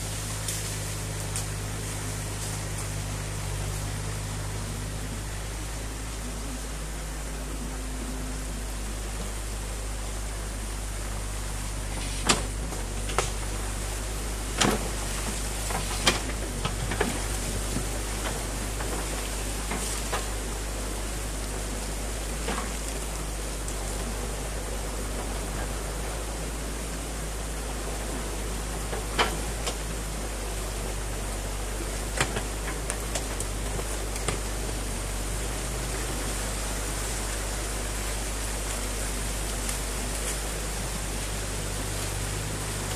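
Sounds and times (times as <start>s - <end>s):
branches cracking and knocking: 0.0s - 6.6s, 11.5s - 42.9s
excavator engine: 0.0s - 42.9s
water rushing: 0.0s - 42.9s.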